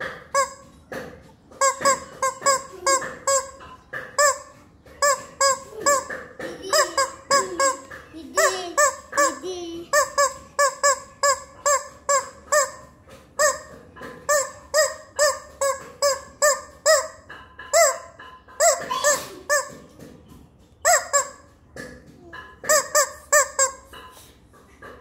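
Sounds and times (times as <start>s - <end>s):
rubber squeaky toy squawking: 0.0s - 0.8s, 1.5s - 20.0s, 20.8s - 21.6s, 22.2s - 24.1s.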